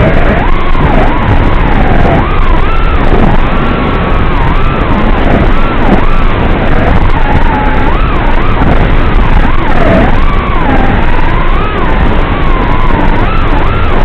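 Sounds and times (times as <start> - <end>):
drone motors whining: 0.0 - 14.0
rushing propeller noise: 0.0 - 14.0.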